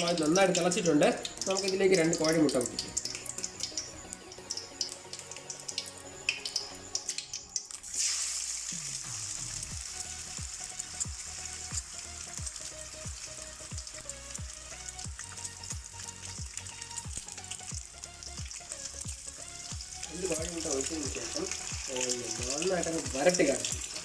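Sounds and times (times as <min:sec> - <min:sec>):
eggs sizzling in oil: 0:00.0 - 0:24.0.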